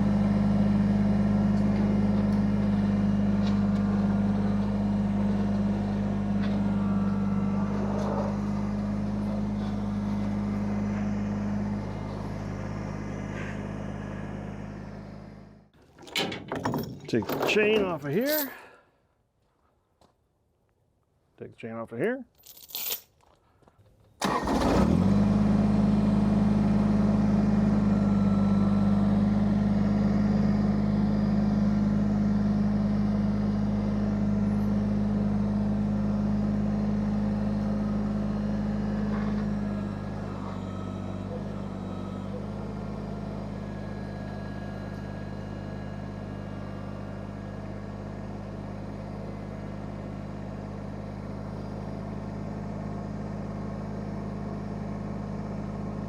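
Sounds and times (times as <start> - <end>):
tractor diesel engine running: 0.0 - 18.5, 24.2 - 56.0.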